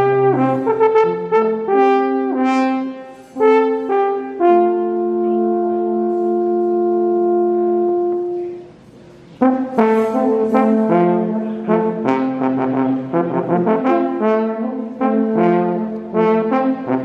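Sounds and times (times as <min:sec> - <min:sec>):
brass band playing: 0:00.0 - 0:17.0.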